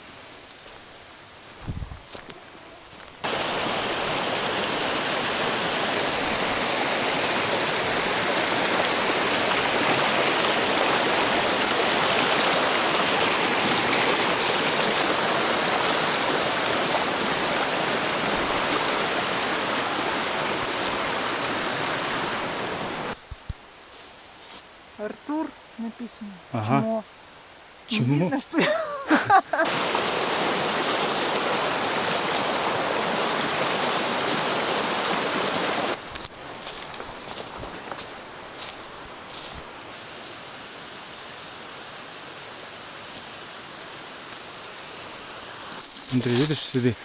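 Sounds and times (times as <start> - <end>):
stream rushing water: 0.0 - 23.2, 26.5 - 47.0.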